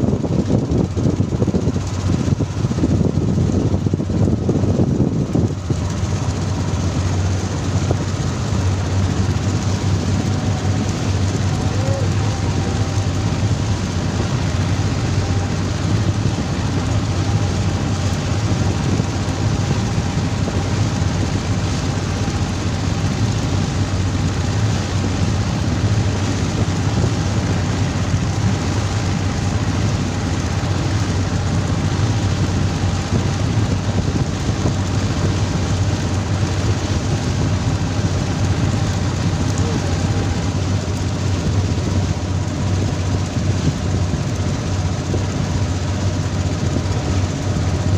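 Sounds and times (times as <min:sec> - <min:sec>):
boat engine droning: 0:00.0 - 0:47.9
water spray rushing along hull: 0:00.0 - 0:47.9.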